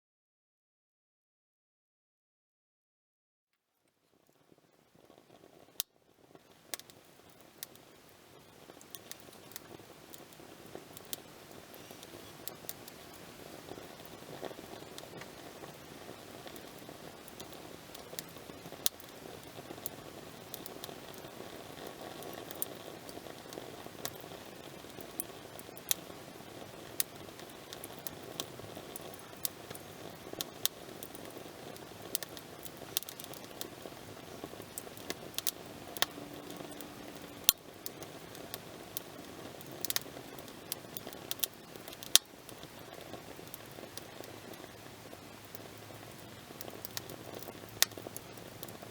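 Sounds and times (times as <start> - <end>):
campfire crackling and popping: 3.9 - 48.9
hiss of flames: 4.3 - 48.9.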